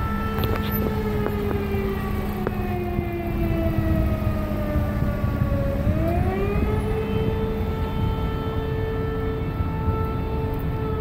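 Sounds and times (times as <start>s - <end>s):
air-raid siren wailing: 0.0s - 11.0s
low rumble of street traffic: 0.0s - 11.0s.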